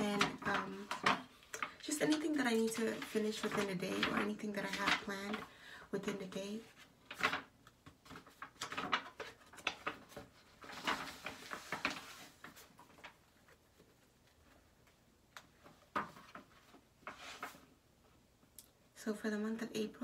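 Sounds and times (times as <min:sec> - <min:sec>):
paper pages rustling: 0:00.0 - 0:17.8.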